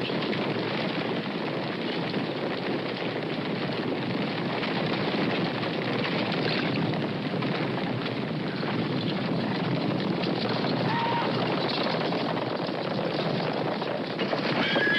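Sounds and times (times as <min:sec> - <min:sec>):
horses galloping: 0:00.0 - 0:14.9.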